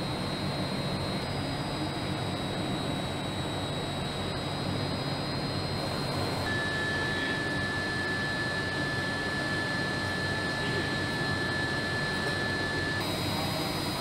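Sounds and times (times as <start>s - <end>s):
high steady whine: 0.0s - 14.0s.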